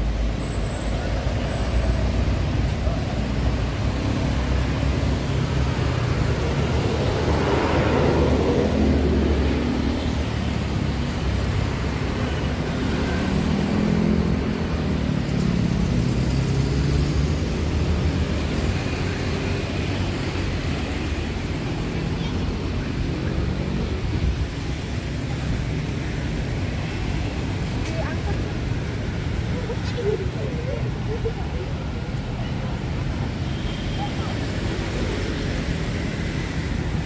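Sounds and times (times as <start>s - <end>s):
passing traffic rumble: 0.0s - 37.0s.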